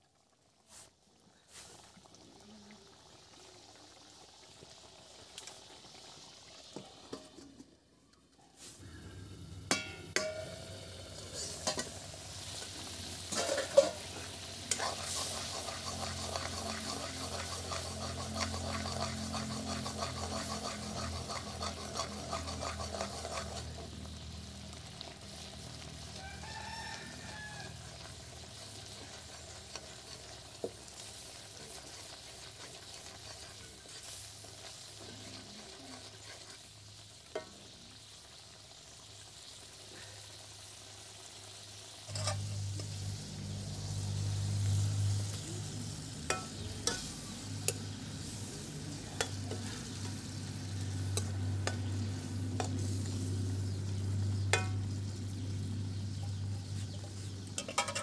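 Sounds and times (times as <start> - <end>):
oil sizzling in a metal pan: 0.0 - 58.0.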